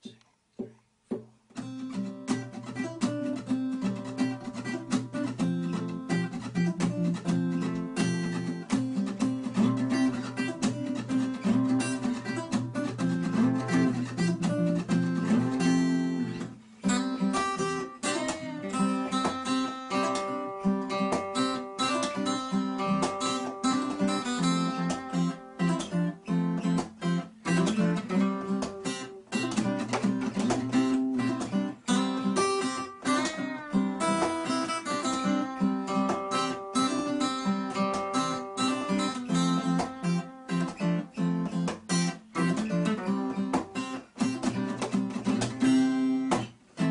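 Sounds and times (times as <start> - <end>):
acoustic guitar music: 0.0 - 46.9.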